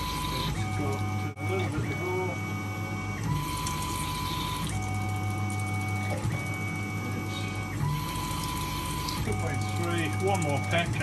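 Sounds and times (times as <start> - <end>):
mill spindle whine: 0.0 - 11.0.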